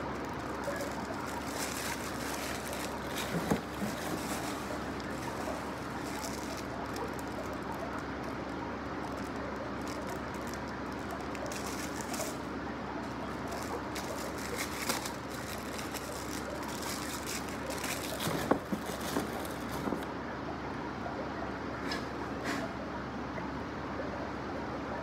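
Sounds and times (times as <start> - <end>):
plastic packaging crinkling: 0.0 - 20.1
steady background hum: 0.0 - 25.0.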